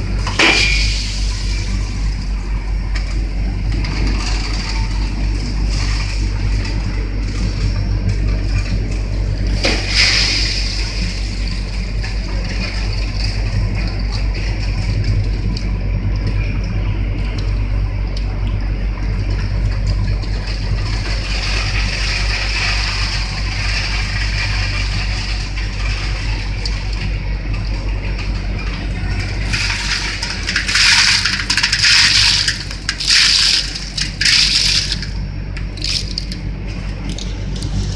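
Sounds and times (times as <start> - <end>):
machinery motor hum: 0.0 - 37.9.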